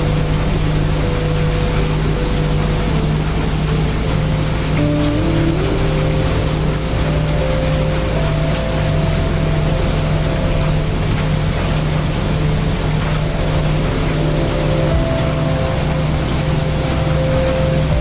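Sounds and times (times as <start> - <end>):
brown noise rumble: 0.0 - 18.0
faint hum tones: 0.0 - 18.0
heavy rain: 0.0 - 18.0.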